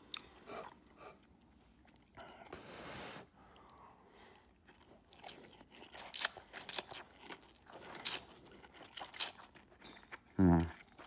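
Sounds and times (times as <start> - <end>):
person chewing: 0.0 - 2.5, 3.2 - 11.0.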